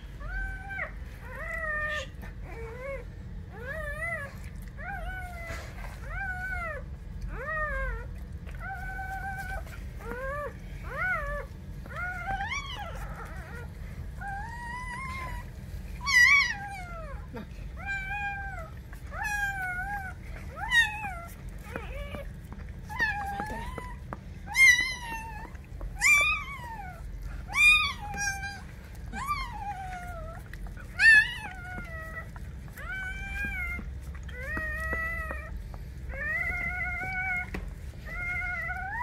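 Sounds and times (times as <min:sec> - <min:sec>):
puppy crying: 0:00.1 - 0:39.0.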